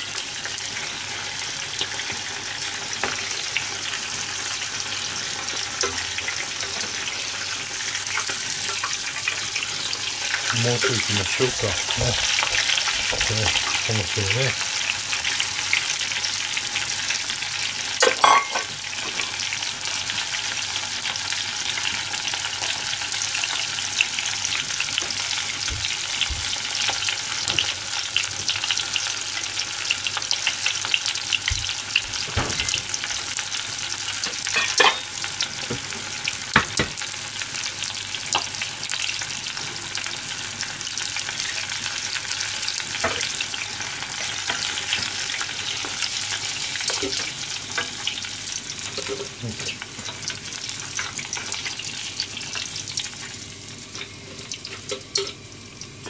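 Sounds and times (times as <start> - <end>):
deep-frying sizzle: 0.0 - 56.0.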